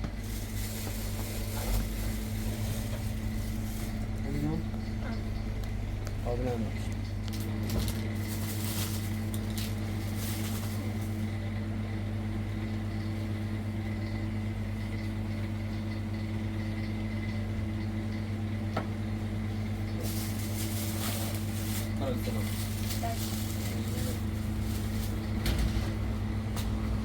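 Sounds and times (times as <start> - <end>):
low mechanical motor hum: 0.0 - 27.0.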